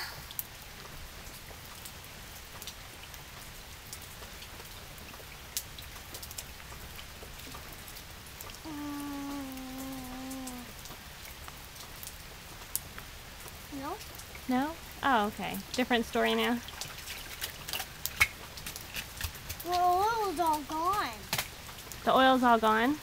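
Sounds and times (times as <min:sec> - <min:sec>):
sharp drips and splats: 0:00.0 - 0:23.0
steady rain falling: 0:00.0 - 0:23.0.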